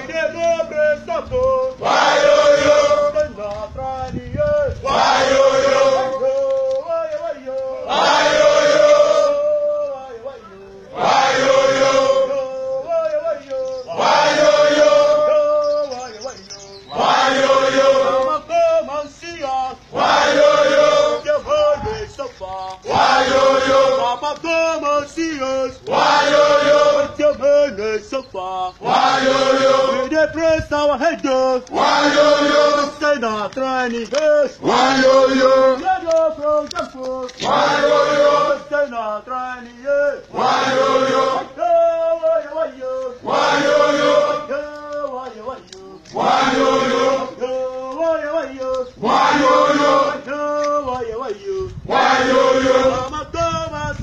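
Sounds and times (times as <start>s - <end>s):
man singing a line: 0.0s - 1.8s, 2.5s - 4.8s, 5.6s - 8.0s, 8.8s - 11.0s, 11.8s - 17.1s, 17.7s - 22.9s, 23.7s - 25.8s, 26.4s - 28.9s, 29.6s - 40.4s, 41.1s - 46.2s, 46.8s - 51.8s, 52.4s - 54.0s
men chanting call and response: 0.0s - 54.0s.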